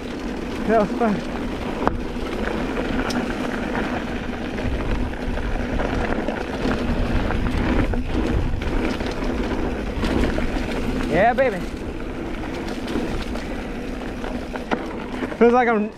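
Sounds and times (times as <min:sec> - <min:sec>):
bike rattle: 0:00.0 - 0:15.9
tyre noise on dirt: 0:00.0 - 0:15.9
wind on microphone: 0:01.3 - 0:14.3.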